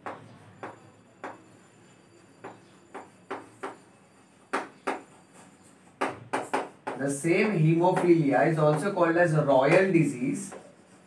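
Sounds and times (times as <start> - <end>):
chalk tapping and scratching: 0.0 - 11.0.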